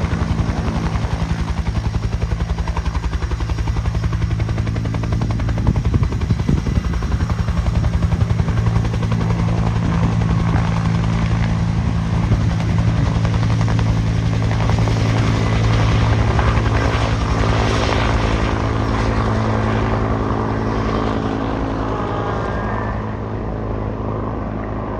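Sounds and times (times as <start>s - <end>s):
helicopter rotor beating: 0.0s - 24.9s
low engine drone: 0.0s - 24.9s.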